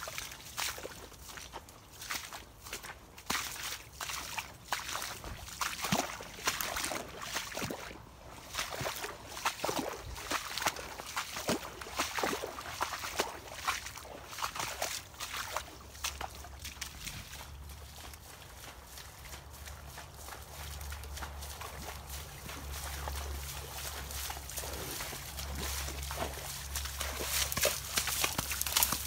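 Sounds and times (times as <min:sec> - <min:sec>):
footsteps splashing through mud: 0:00.0 - 0:29.0.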